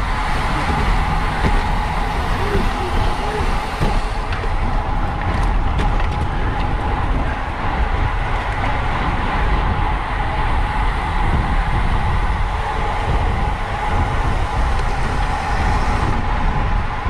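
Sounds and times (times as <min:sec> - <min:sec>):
thin steady whine: 0:00.0 - 0:17.0
wind buffeting microphone: 0:00.0 - 0:17.0.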